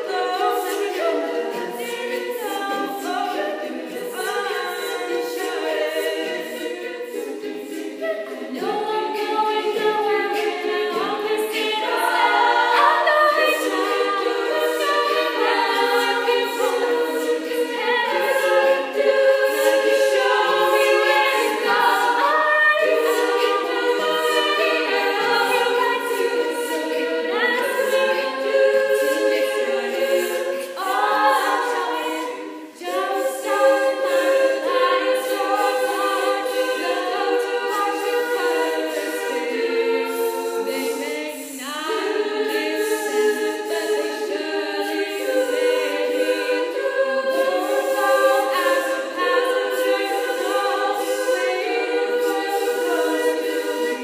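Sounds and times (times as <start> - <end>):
women singing in harmony: 0.0 - 54.0.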